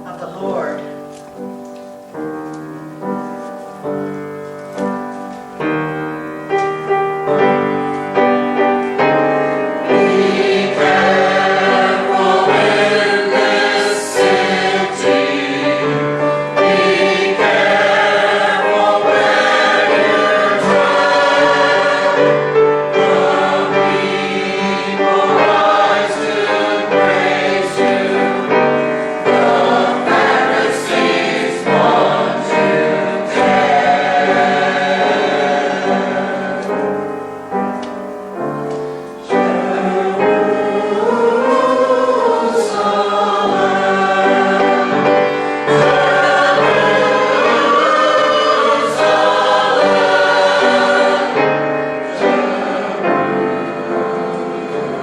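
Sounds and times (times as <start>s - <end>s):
choir singing with accompaniment: 0.9s - 55.0s.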